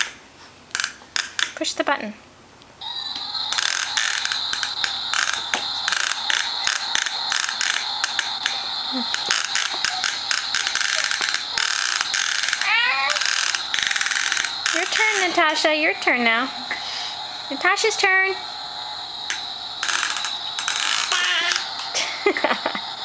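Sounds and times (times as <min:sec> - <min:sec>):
vacuum cleaner whining: 0:02.8 - 0:23.0.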